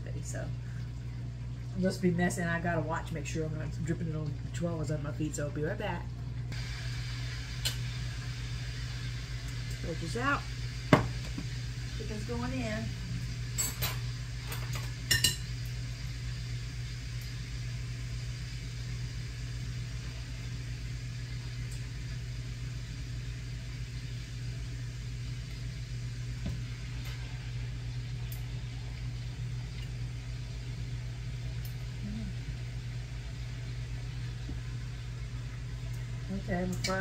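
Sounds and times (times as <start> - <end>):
range hood fan humming: 0.0 - 37.0.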